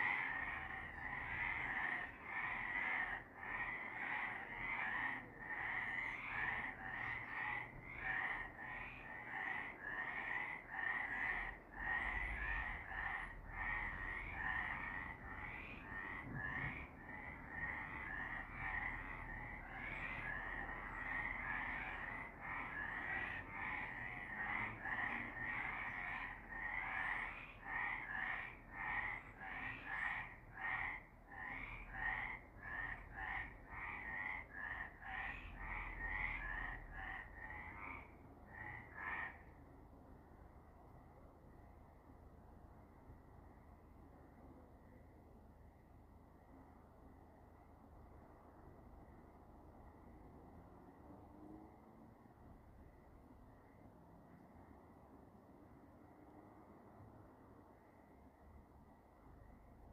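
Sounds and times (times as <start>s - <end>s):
frogs chorus: 0.0s - 59.9s.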